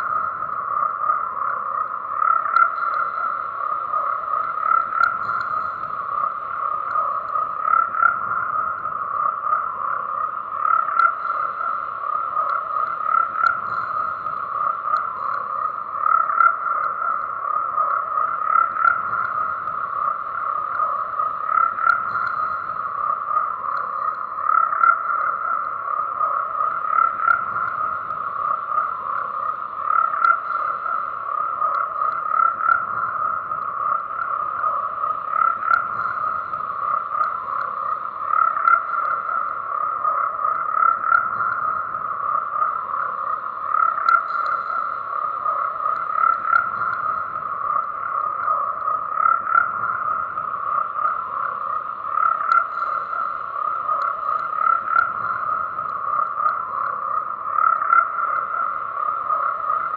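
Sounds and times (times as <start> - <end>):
chorus of frogs croaking: 0.0 - 59.9.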